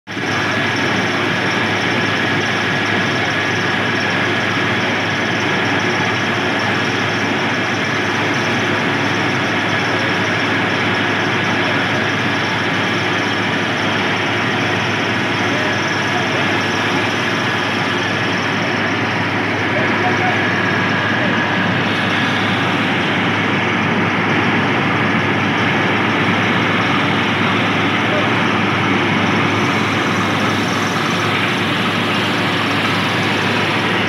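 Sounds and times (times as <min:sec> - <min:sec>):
drilling rig running: 0:00.1 - 0:34.0
high machine whine: 0:00.1 - 0:34.0.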